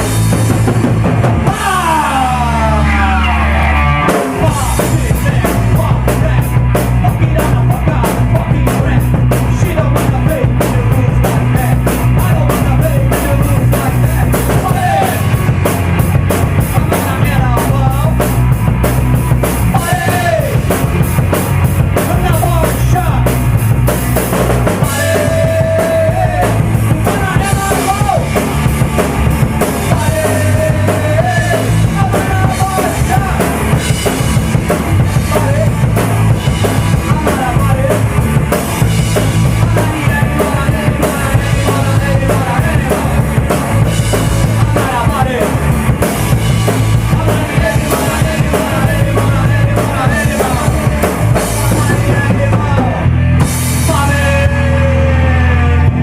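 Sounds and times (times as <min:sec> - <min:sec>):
bass guitar: 0:00.0 - 0:56.0
distorted electric guitar: 0:00.0 - 0:56.0
loud drum kit: 0:00.0 - 0:56.0
punk rock band playing: 0:00.0 - 0:56.0.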